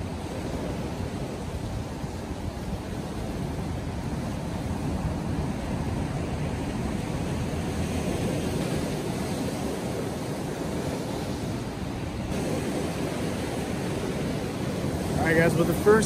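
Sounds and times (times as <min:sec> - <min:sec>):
surf breaking on rocks: 0:00.0 - 0:16.0.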